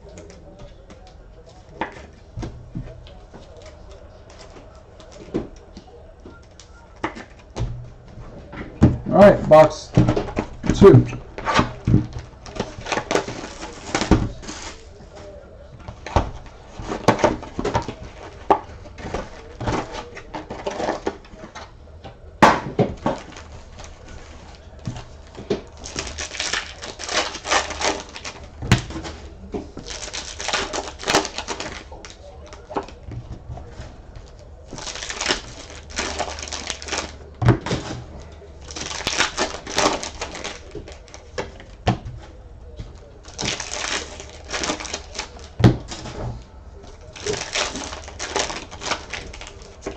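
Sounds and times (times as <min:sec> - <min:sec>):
crinkling wrapper rustles: 0:00.0 - 0:08.6, 0:09.2 - 0:21.8, 0:22.4 - 0:49.9.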